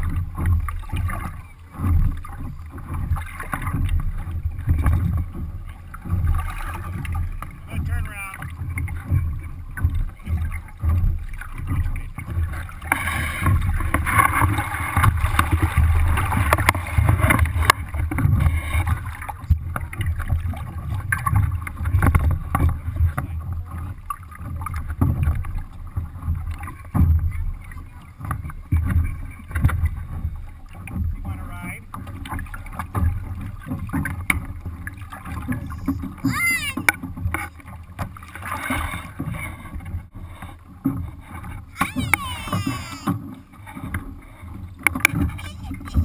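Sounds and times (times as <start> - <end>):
water splashing against a hull: 0.0 - 46.0.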